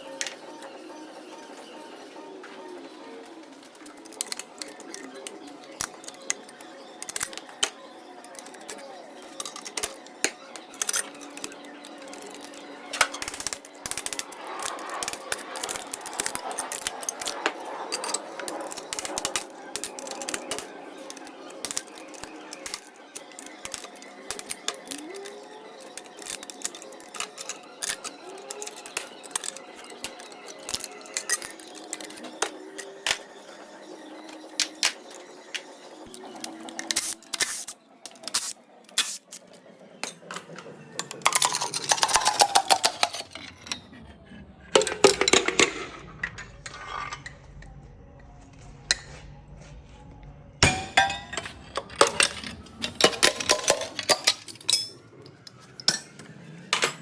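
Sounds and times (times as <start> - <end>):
background music: 0.0 - 57.0
metal tools clinking and clattering: 3.7 - 33.4, 34.2 - 43.9, 50.6 - 57.0.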